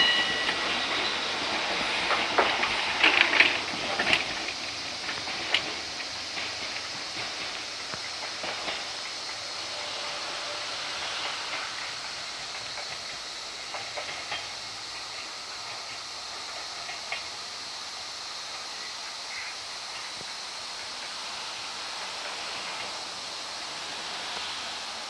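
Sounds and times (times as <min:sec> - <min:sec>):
train rolling on track: 0:00.0 - 0:25.0.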